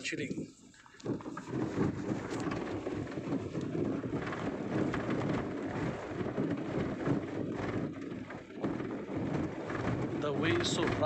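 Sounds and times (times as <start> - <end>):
wind buffeting microphone: 0.0 - 11.0
vehicle rumbling over dirt track: 1.0 - 11.0.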